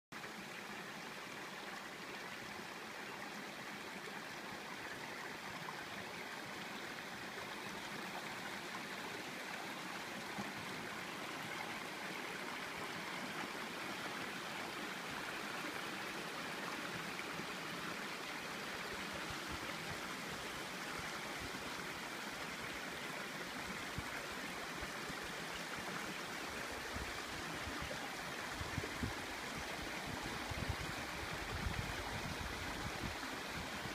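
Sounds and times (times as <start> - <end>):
creek running over stones: 0.2 - 33.9.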